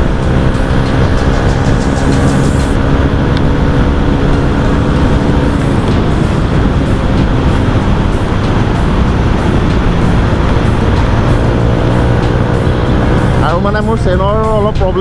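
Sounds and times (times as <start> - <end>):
loud motorcycle exhaust: 0.0 - 14.8
wind and road noise: 0.0 - 15.0.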